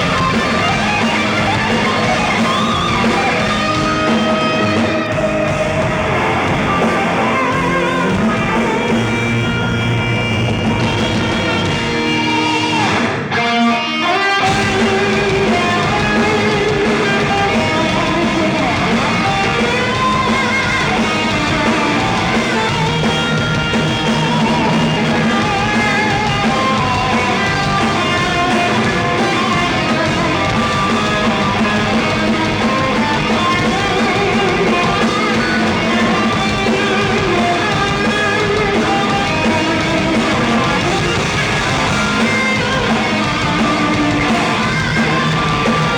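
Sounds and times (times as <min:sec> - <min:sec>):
electric guitar: 0:00.0 - 0:45.9
live heavy metal band playing: 0:00.0 - 0:45.9.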